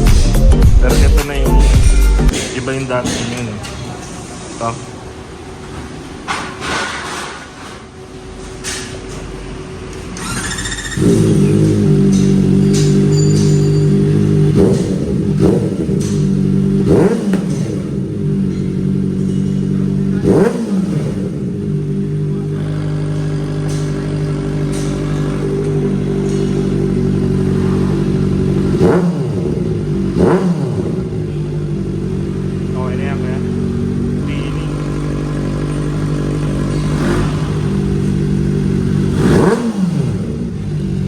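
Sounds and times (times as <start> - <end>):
motorcycle engine idling and revving: 8.0 - 41.0.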